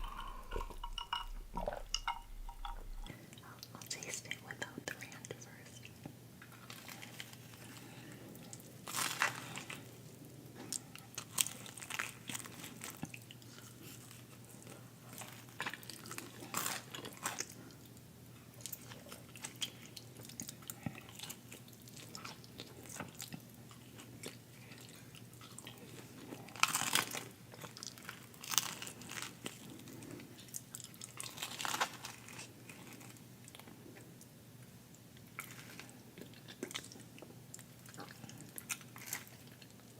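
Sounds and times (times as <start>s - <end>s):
close-miked chewing: 0.0s - 4.6s, 5.8s - 39.9s.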